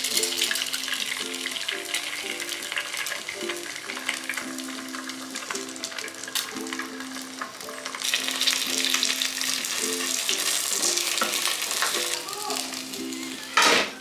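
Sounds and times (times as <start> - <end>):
egg sizzling in a pan: 0.0 - 14.0
light background music: 0.0 - 14.0.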